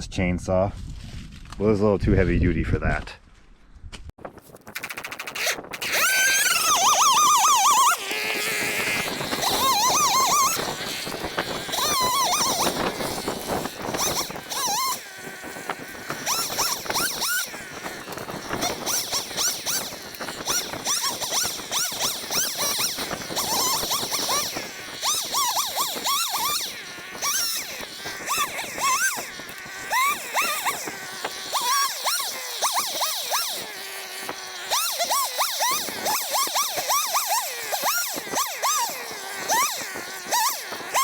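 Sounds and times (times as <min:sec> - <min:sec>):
chainsaw revving and cutting wood: 0:05.4 - 0:41.0.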